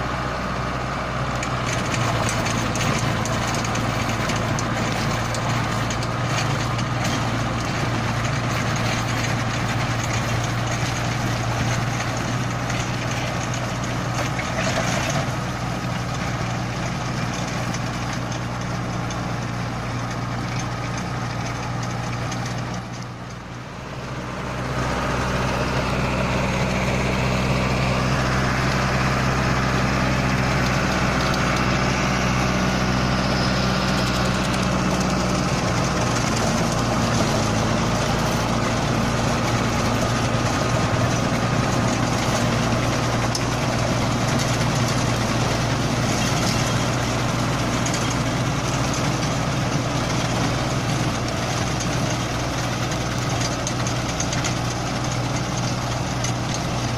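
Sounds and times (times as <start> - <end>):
rotavator tilling soil: 0.0 - 56.9
tractor diesel engine under load: 0.0 - 56.9.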